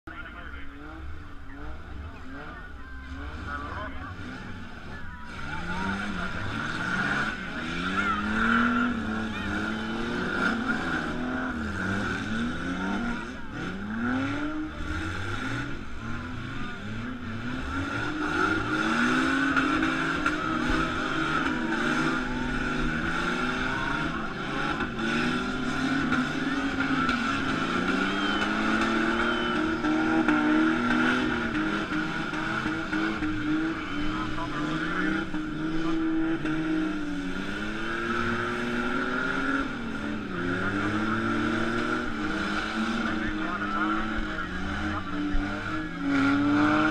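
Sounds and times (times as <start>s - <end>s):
car engines revving: 0.0s - 46.9s.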